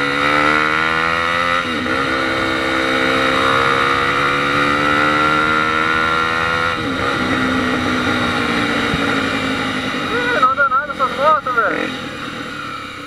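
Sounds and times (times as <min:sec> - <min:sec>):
motorcycle engine pulling under throttle: 0:00.0 - 0:13.0.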